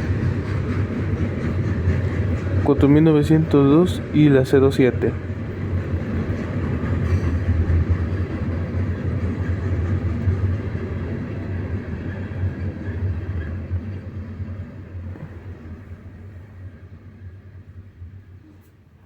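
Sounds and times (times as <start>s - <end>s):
diesel freight train passing: 0.0s - 18.6s.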